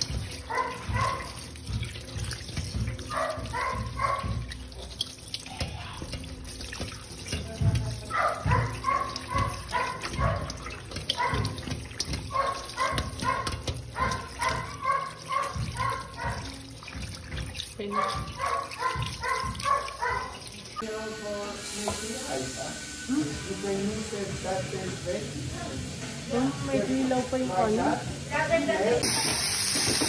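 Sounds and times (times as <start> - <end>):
tap water running: 0.0 - 30.0.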